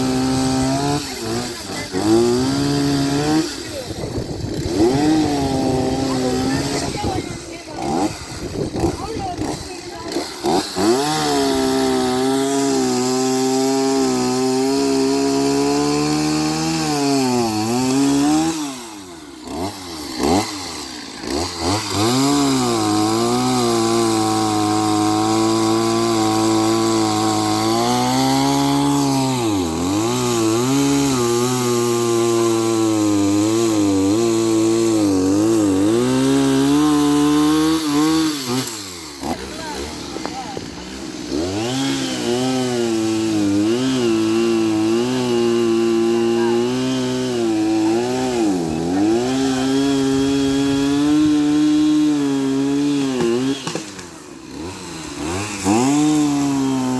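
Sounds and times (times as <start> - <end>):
chainsaw cutting at high revs: 0.0 - 56.9.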